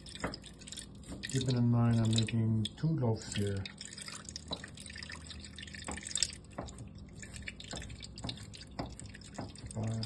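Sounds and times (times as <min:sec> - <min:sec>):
water dripping into a bowl: 0:00.0 - 0:10.0.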